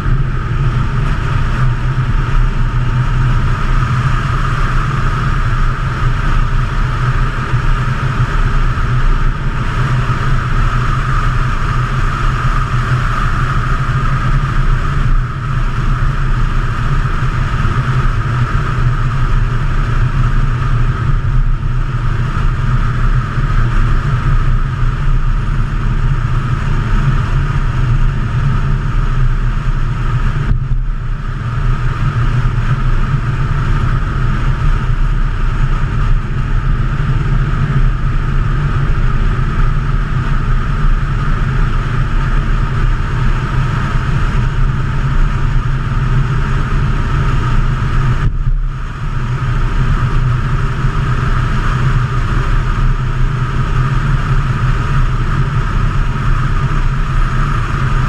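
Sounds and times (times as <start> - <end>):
diesel car engine rumble: 0.0 - 58.0
road and wind noise: 0.0 - 58.0.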